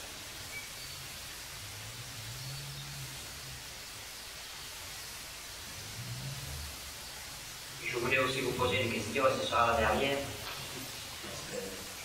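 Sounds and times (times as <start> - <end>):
faint low hum: 0.0 - 12.0
old recording hiss: 0.0 - 12.0.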